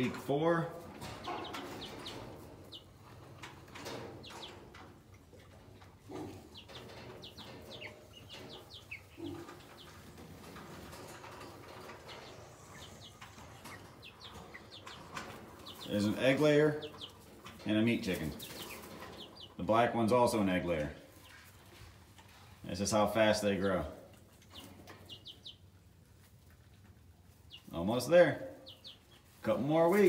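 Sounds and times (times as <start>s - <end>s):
chicks peeping softly: 0.0s - 30.0s.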